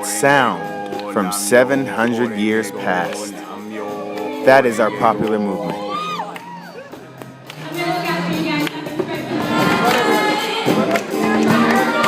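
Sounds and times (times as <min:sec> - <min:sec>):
group of voices singing: 0:00.0 - 0:12.0
percussion hits: 0:00.0 - 0:12.0.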